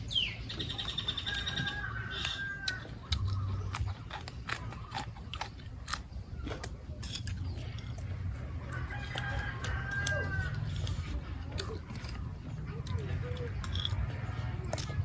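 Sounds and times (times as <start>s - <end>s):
person chewing crunchy food: 0.5s - 15.0s.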